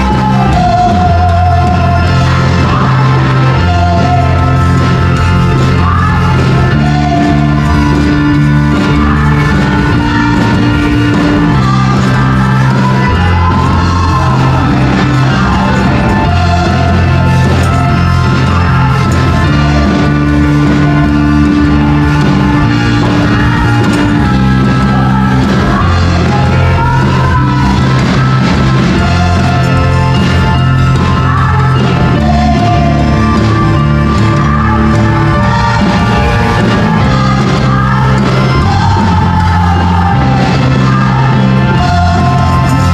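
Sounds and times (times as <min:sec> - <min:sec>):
band playing worship music: 0:00.0 - 0:42.9
women singing into microphones: 0:00.0 - 0:42.9.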